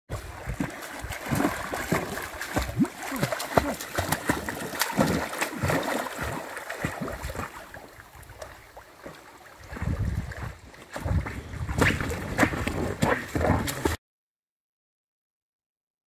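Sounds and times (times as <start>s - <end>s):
churning water rumble: 0.1s - 14.0s
pool water splashing: 0.1s - 14.0s.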